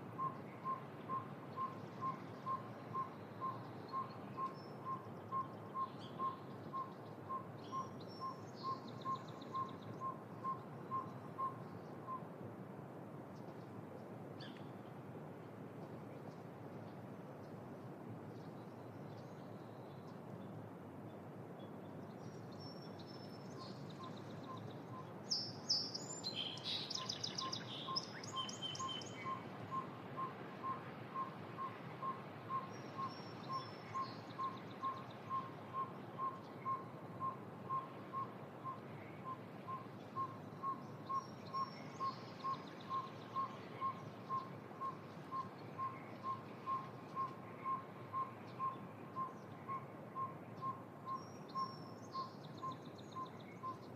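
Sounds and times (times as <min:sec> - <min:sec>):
wetland ambience hiss: 0:00.0 - 0:53.9.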